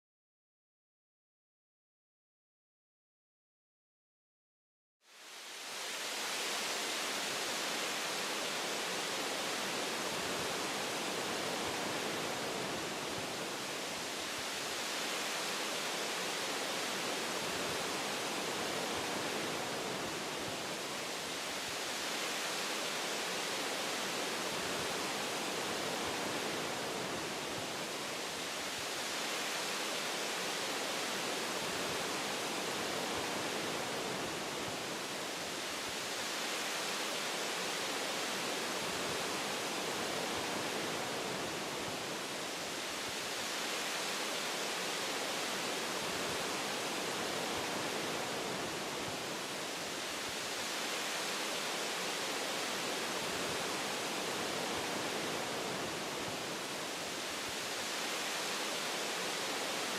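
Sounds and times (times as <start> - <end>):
wind through tree branches: 5.0 - 59.9.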